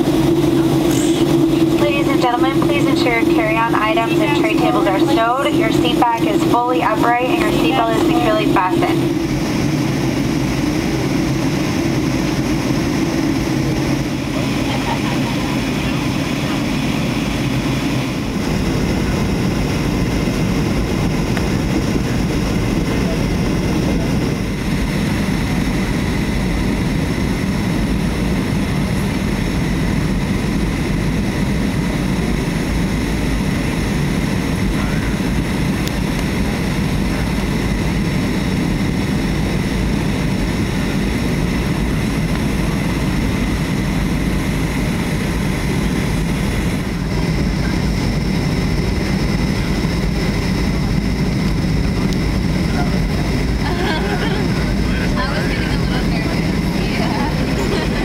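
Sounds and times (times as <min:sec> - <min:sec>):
jet engine drone: 0:00.0 - 0:58.0
rushing air in cabin: 0:00.0 - 0:58.0.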